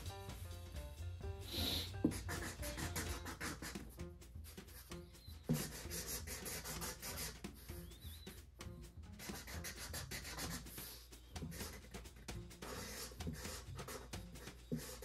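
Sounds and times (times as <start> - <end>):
marker scratching on cardboard: 1.5 - 15.0.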